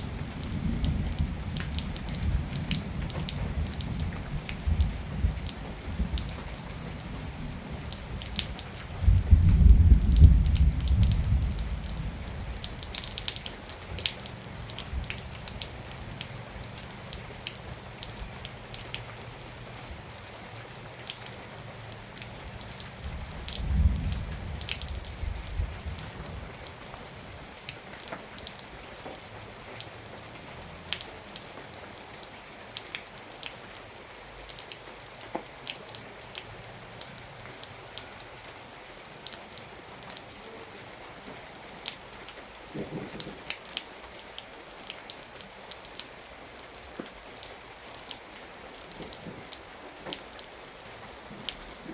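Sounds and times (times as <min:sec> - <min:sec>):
raindrops hitting close by: 0:00.0 - 0:51.9
steady rain falling: 0:00.0 - 0:51.9.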